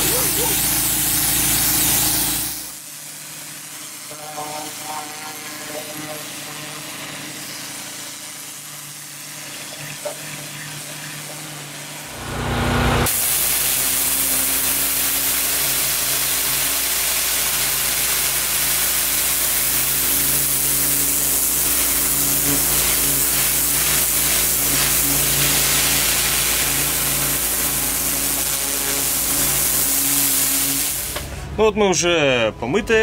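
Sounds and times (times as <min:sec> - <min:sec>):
washer motor humming: 0:00.0 - 0:02.8, 0:04.9 - 0:31.5
pressure washer jet hissing: 0:00.0 - 0:31.5.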